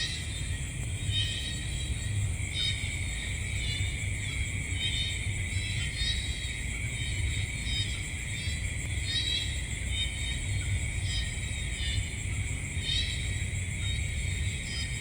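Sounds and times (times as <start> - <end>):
cricket chirping trills: 0.0 - 15.0
crickets droning: 0.0 - 15.0.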